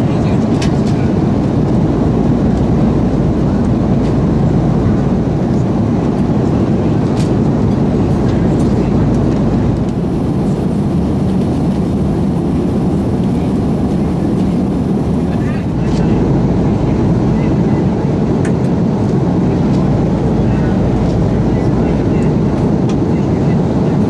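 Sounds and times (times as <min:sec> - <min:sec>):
jet engine cabin rumble: 0:00.0 - 0:24.0.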